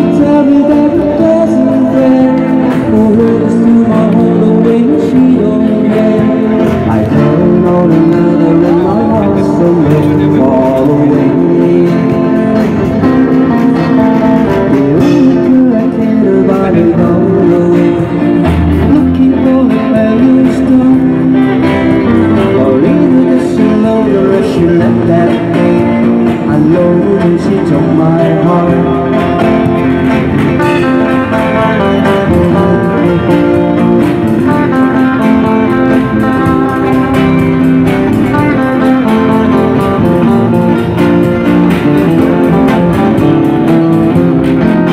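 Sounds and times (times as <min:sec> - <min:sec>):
drum kit: 0:00.0 - 0:44.9
electric guitar: 0:00.0 - 0:44.9
live band playing pop song: 0:00.0 - 0:44.9
person singing: 0:00.0 - 0:44.9.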